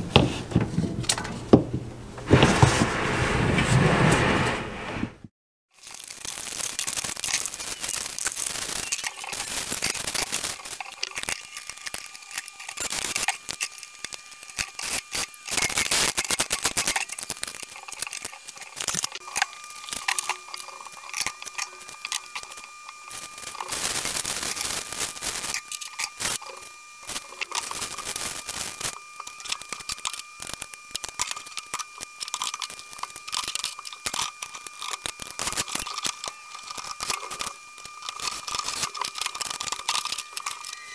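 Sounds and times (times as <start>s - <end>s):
cardboard and plastic wrap crinkling: 5.8s - 40.9s.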